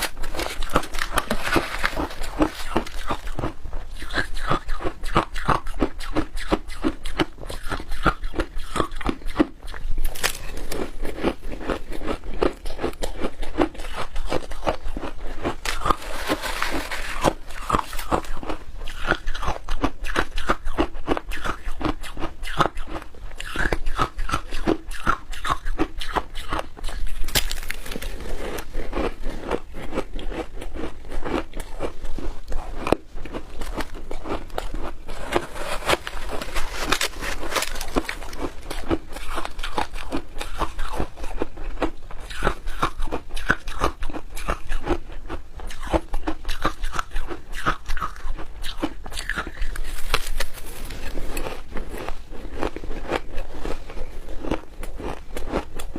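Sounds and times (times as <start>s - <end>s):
crunching and chewing ice: 0.0s - 55.9s.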